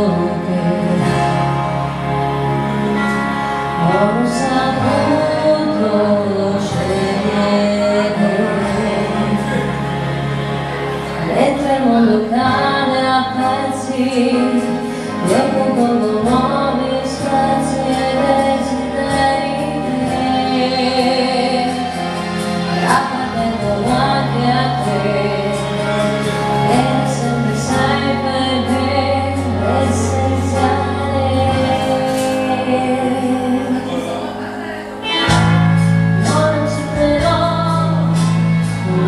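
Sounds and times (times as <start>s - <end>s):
woman singing pop song: 0.0s - 2.3s, 3.6s - 10.0s, 11.1s - 34.4s, 35.0s - 39.0s
held bass notes: 0.0s - 39.0s.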